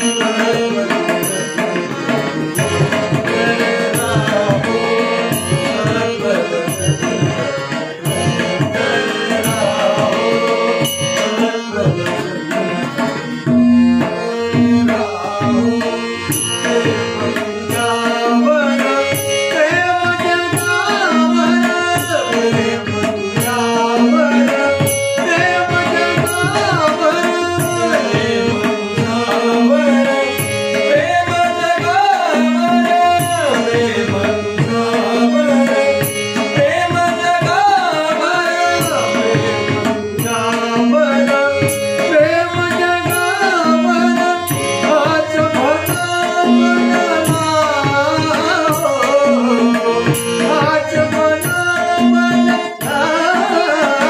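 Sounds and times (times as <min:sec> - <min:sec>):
harmonium chords: 0:00.0 - 0:54.0
man singing: 0:00.0 - 0:54.0
tabla rhythm: 0:00.0 - 0:54.0.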